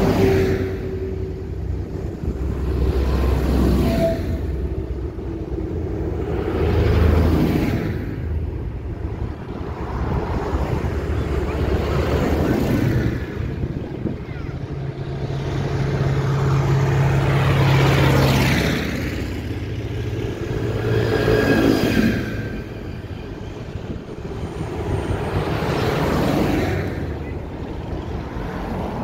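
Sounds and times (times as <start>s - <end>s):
tractor diesel engines driving past: 0.0s - 29.0s.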